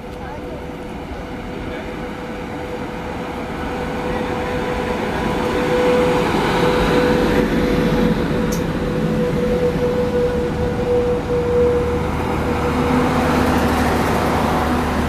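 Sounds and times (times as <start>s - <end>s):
train rumbling past platform: 0.0s - 15.0s
steady high tone: 1.6s - 15.0s.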